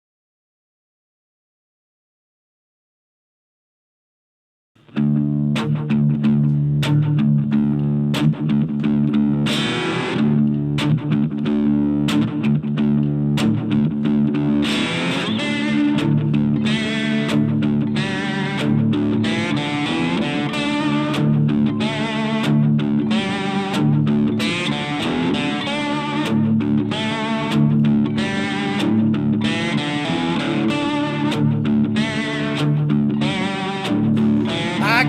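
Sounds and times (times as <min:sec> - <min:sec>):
cigar box guitar riff: 0:04.8 - 0:35.0.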